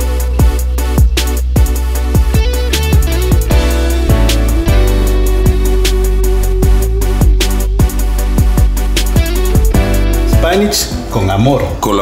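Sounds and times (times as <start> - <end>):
drum-machine beat: 0.0 - 11.1.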